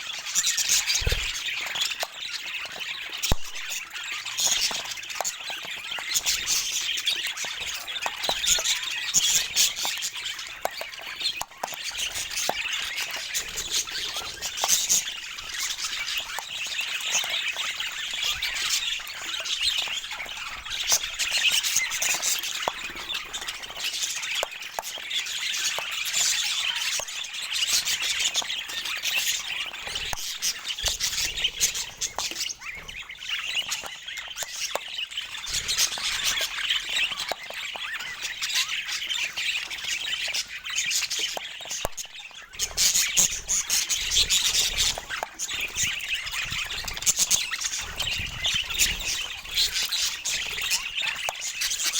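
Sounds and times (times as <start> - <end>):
budgerigars chattering: 0.0 - 51.9.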